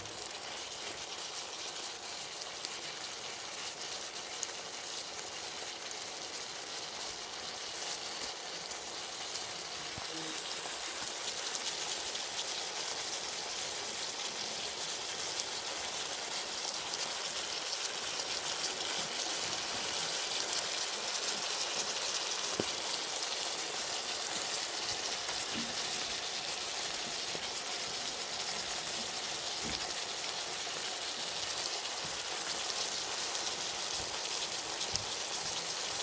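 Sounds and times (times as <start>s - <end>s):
stir fry sizzling in a wok: 0.0s - 36.0s.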